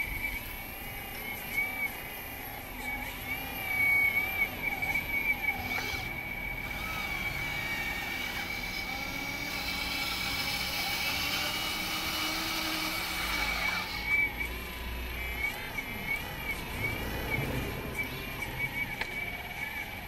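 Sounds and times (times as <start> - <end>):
hydraulic whine of model excavator: 0.0 - 20.0.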